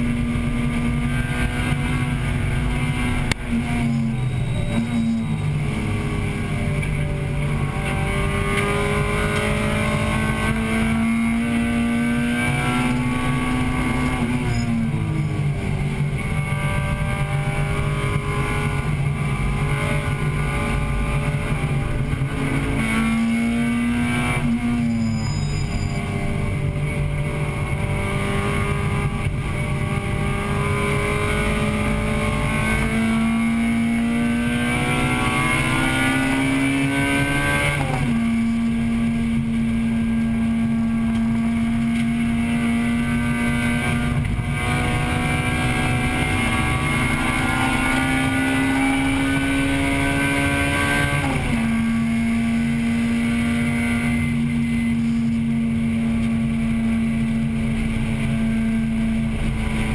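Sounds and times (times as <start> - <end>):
car engine pulling hard: 0.0 - 59.9
wind and road noise: 0.0 - 59.9.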